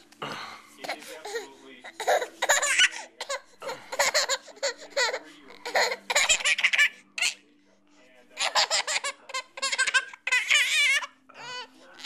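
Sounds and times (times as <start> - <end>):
baby laughing: 0.8 - 7.4, 8.4 - 12.0.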